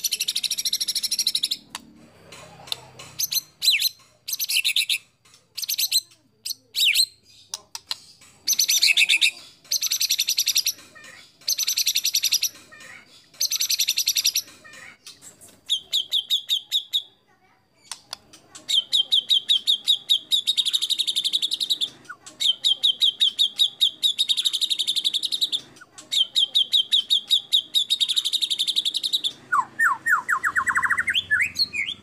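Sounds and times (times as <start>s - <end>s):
bird singing varied song: 0.0s - 1.9s, 2.6s - 17.2s, 17.8s - 32.0s.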